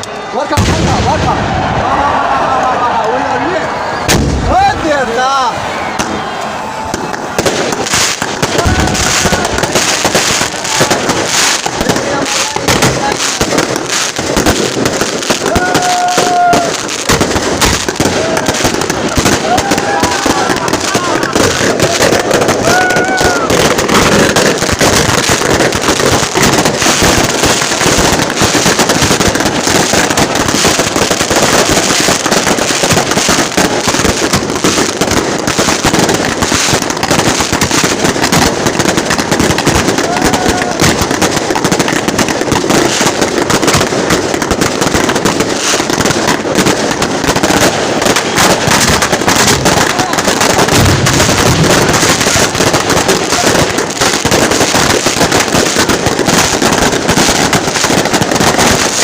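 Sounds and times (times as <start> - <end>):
firecrackers crackling: 0.0 - 59.0.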